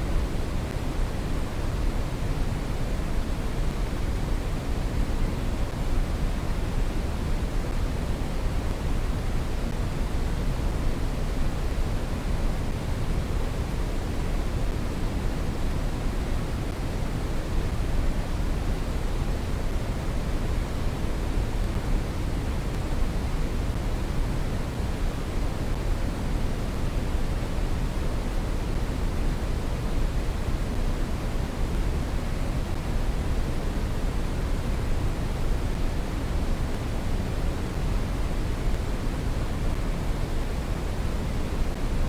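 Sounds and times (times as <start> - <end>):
brown noise hiss: 0.0 - 42.0.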